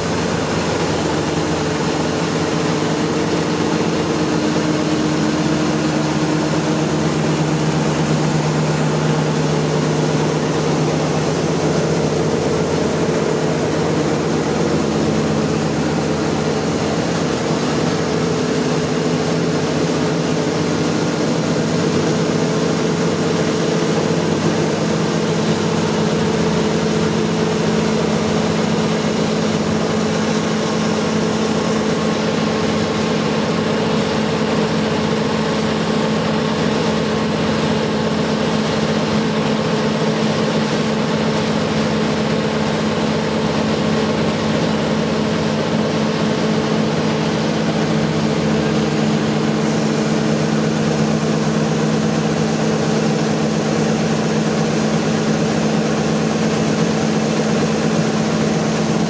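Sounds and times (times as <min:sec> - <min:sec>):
combine harvester engine hum: 0:00.0 - 0:59.0.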